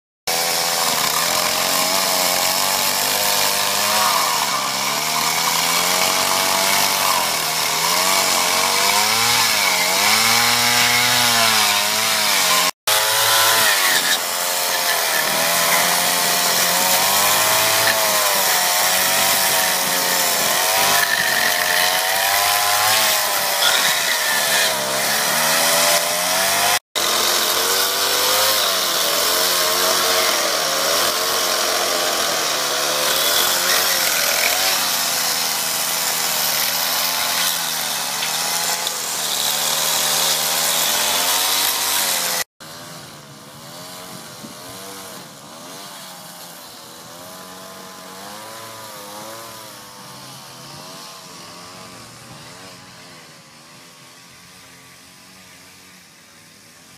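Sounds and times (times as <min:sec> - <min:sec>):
chainsaw cutting wood: 0:00.3 - 0:56.9.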